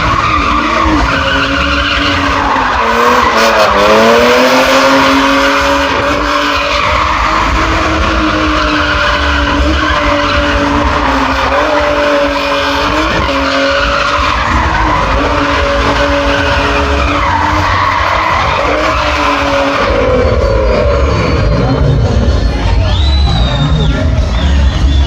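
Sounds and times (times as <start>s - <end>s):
car engine at high revs: 0.0s - 25.0s
tyres skidding: 0.0s - 25.0s.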